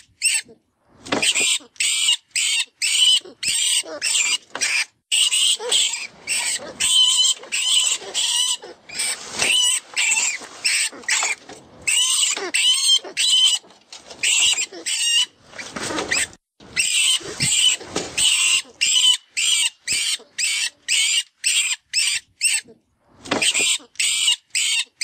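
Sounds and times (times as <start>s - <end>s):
rat squeaking and squealing: 0.0s - 0.6s, 1.2s - 22.7s, 23.4s - 25.0s.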